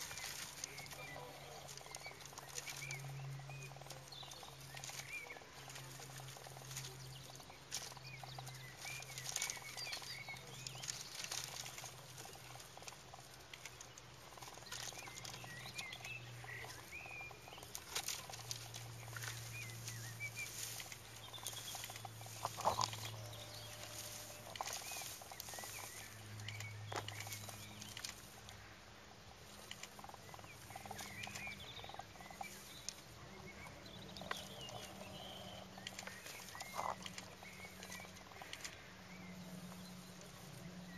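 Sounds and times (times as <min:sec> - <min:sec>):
low steady hum: 0:00.0 - 0:40.9
small birds chirping: 0:00.0 - 0:40.9.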